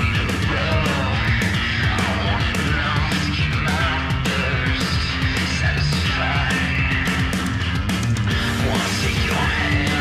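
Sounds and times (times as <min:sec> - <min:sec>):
loud rock music: 0:00.0 - 0:10.0.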